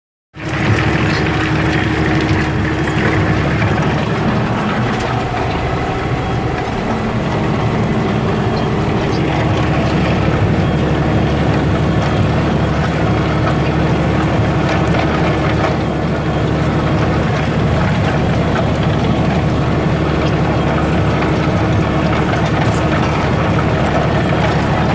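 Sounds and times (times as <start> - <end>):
tractor diesel engine under load: 0.4 - 24.9.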